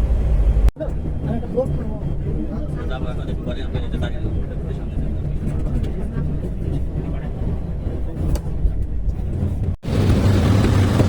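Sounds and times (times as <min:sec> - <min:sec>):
speedboat engine humming: 0:00.0 - 0:11.0.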